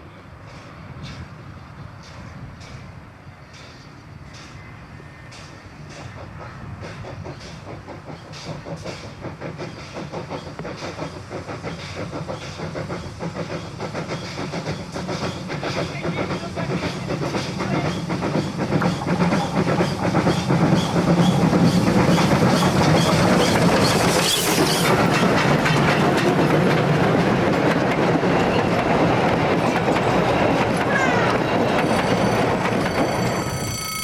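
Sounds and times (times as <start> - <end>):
steam train running: 0.0 - 34.0
wheels clicking over rail joints: 5.4 - 33.7.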